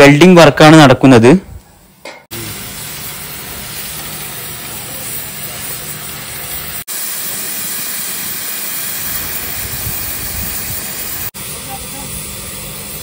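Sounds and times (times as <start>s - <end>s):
gas cutting torch hissing: 2.3s - 13.0s
steel welding hiss: 2.3s - 13.0s.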